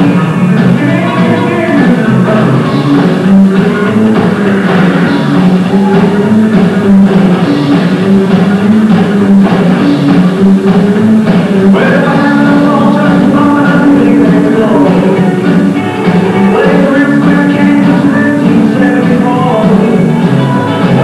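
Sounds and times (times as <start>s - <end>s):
drum kit: 0.0s - 21.0s
electric guitar: 0.0s - 21.0s
rockabilly band playing live: 0.0s - 21.0s.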